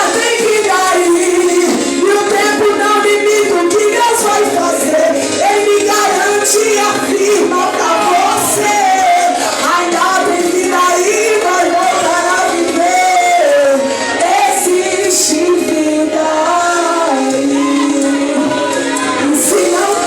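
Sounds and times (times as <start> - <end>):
people singing worship song: 0.0 - 20.0.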